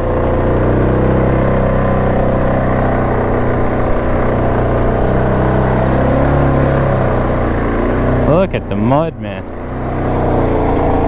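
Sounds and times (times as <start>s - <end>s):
atv engine running at low speed: 0.0s - 11.0s.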